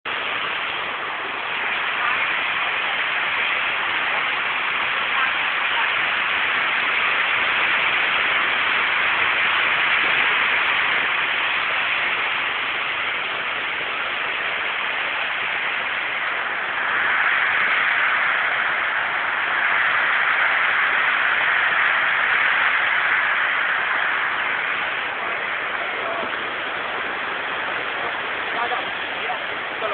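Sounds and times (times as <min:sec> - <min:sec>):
water rushing through sluice gates: 0:00.1 - 0:29.9.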